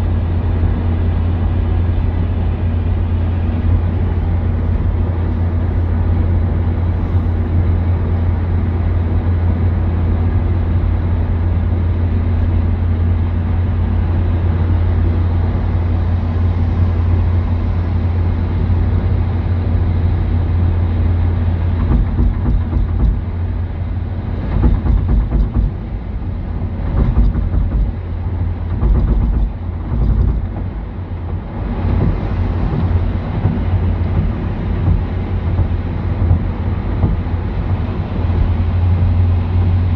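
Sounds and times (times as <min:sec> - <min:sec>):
car engine and tyre drone: 0:00.0 - 0:39.9
low buffeting and thumps: 0:00.0 - 0:39.9.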